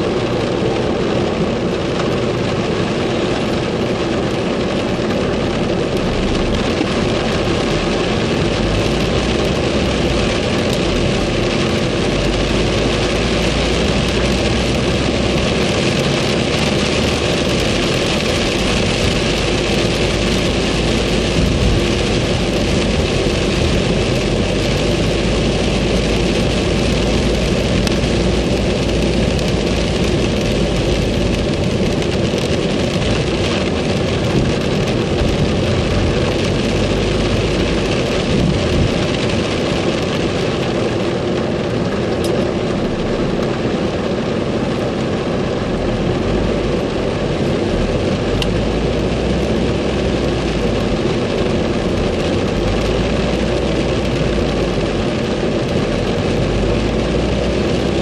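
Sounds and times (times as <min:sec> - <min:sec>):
car engine and tyres rumbling: 0:00.0 - 0:58.0
heavy rain on car roof: 0:00.0 - 0:58.0.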